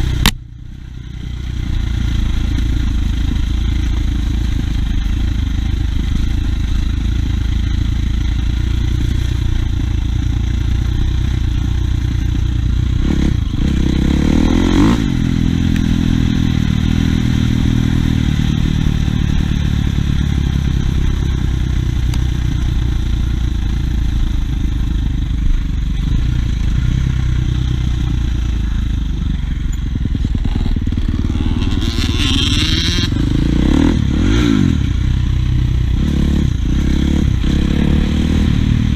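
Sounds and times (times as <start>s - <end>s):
dirt bike engine revving: 1.6s - 21.7s, 26.0s - 38.9s.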